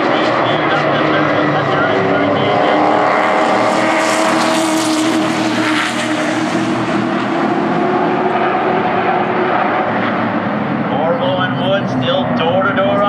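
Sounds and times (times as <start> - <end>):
race truck engines: 0.0 - 13.0.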